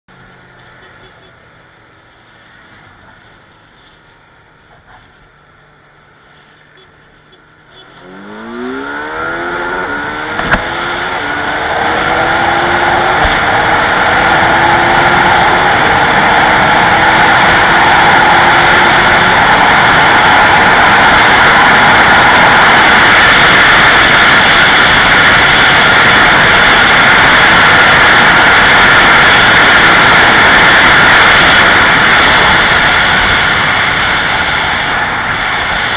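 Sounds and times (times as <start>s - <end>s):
motorcycle engine accelerating: 6.8s - 35.9s.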